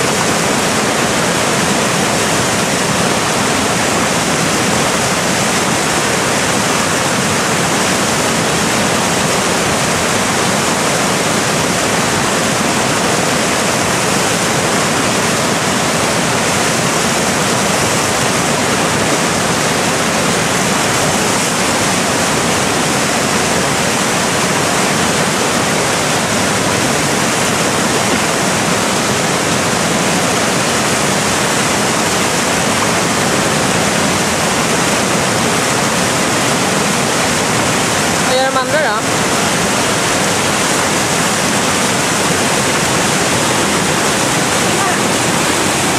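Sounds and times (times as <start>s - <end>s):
river rapid rushing: 0.0s - 45.9s.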